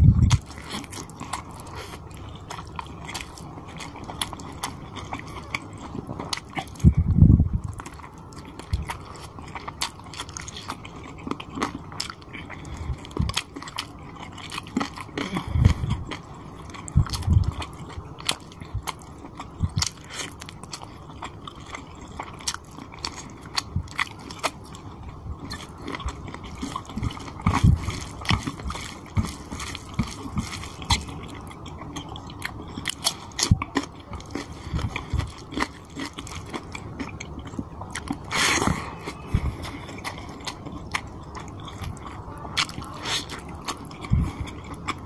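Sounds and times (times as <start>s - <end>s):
wet chewing and biting: 0.0s - 45.0s.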